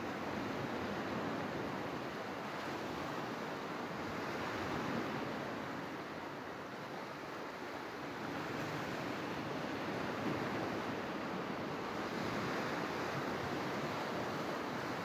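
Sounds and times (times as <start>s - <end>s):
waves washing on beach: 0.0s - 15.0s.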